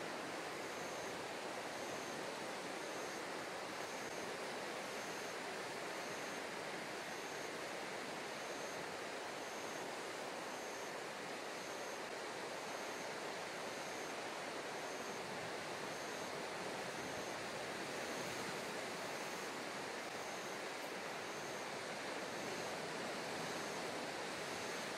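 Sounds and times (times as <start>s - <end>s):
wind: 0.0s - 24.9s.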